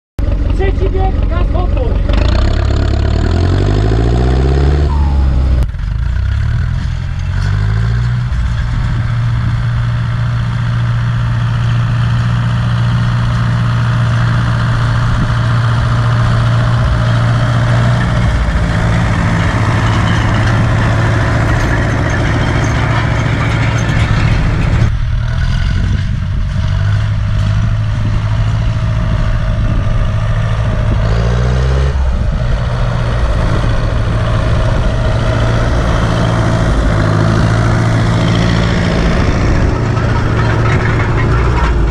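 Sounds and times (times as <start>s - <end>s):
tractor diesel engine under load: 0.2s - 41.9s.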